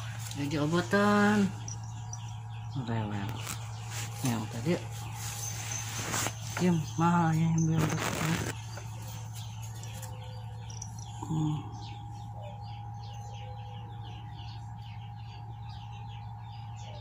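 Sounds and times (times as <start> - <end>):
bird chirping: 0.0 - 17.0
low hum: 0.0 - 17.0.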